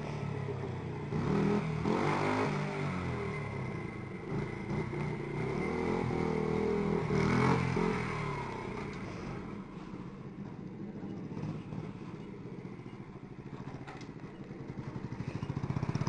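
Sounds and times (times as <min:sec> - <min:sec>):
motorbike engine revving: 0:00.0 - 0:09.5, 0:10.8 - 0:16.0.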